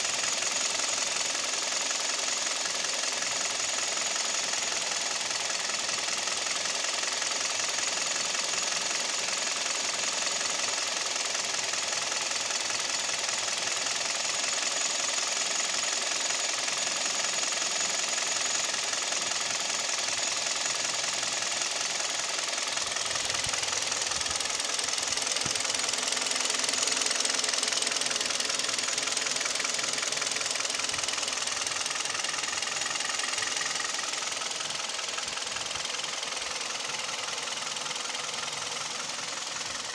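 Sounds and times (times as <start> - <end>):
engine running with knock: 0.0 - 39.9.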